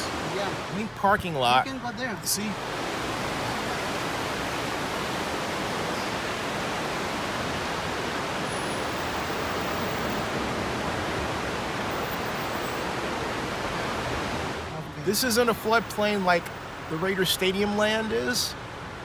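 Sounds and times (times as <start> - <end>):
water rushing through flooded lot: 0.0 - 19.0.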